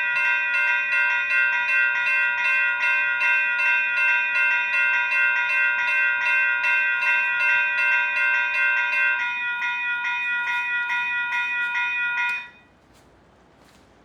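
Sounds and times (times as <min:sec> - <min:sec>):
electronic locomotive bells ringing: 0:00.0 - 0:12.7.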